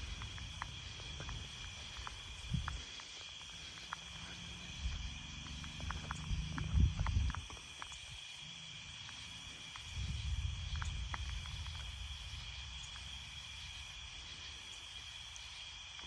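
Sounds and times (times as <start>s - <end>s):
faint ticks: 0.0s - 8.2s, 8.9s - 16.0s
night insects chirping: 0.0s - 16.0s.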